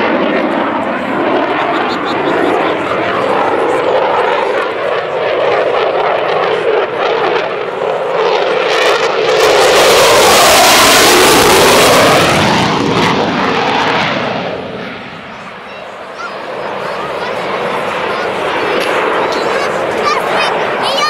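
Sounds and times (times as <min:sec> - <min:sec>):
jet passing overhead: 0:00.0 - 0:21.0.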